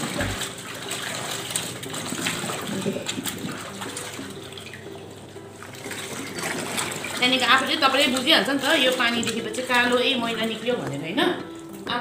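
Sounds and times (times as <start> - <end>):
water splashing in washing machine tub: 0.0 - 12.0.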